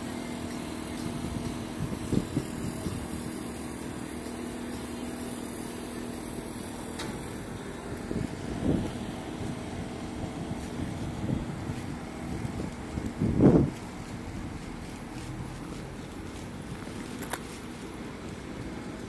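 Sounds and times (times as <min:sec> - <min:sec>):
low engine hum: 0:00.0 - 0:19.0
outdoor noise: 0:00.0 - 0:19.0.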